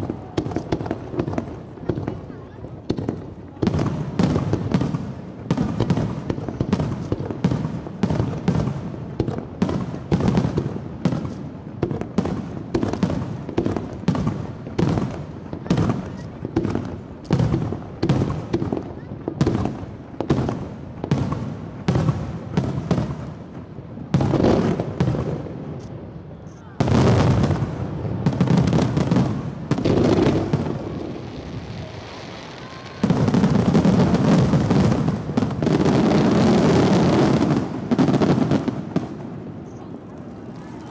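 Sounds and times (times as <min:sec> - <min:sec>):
fireworks bursting with echoing bangs: 0:00.0 - 0:40.9.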